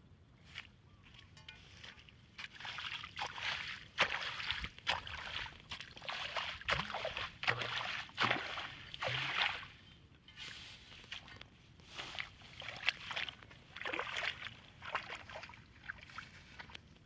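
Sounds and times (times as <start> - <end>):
water splashing and sloshing: 0.5 - 17.0.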